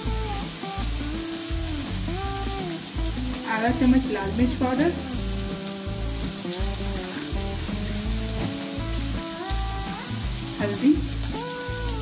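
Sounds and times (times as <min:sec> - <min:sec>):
food sizzling in oil: 0:00.0 - 0:12.0
instrumental music with bass beat: 0:00.0 - 0:12.0.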